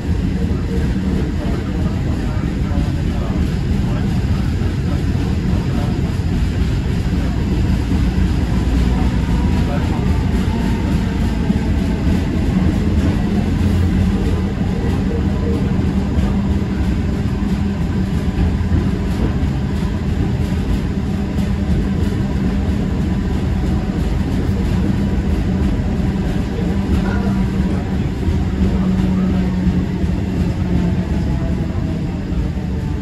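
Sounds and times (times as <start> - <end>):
constant low hum: 0.0 - 33.0
tram rumbling on rails: 0.0 - 33.0.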